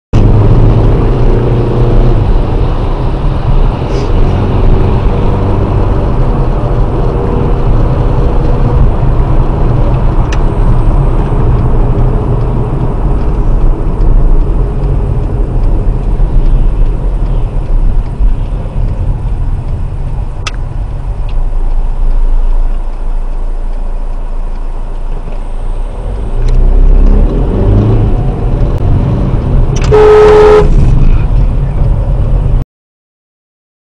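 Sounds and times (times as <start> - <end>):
car engine and road rumble: 0.1 - 32.6.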